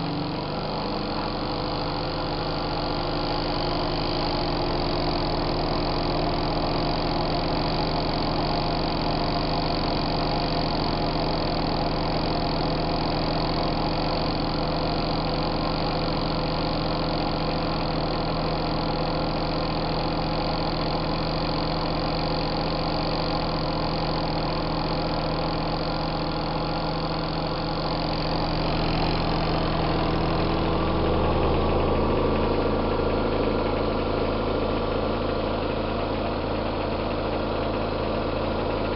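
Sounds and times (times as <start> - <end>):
washing machine motor hum and rattle: 0.0 - 38.9.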